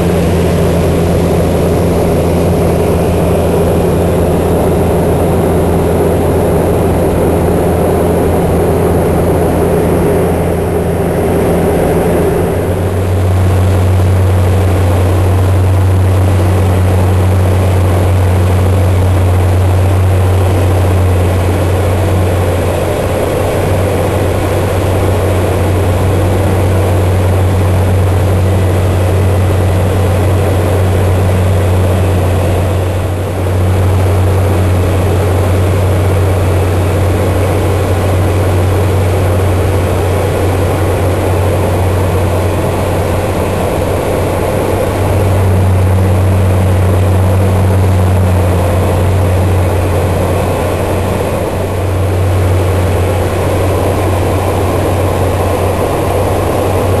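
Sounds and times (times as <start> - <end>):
turboprop engine droning: 0.0 - 57.0.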